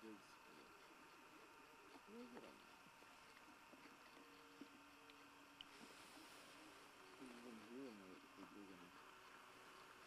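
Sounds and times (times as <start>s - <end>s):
faint high hiss: 0.0s - 10.0s
faint murmuring voice: 0.0s - 10.0s.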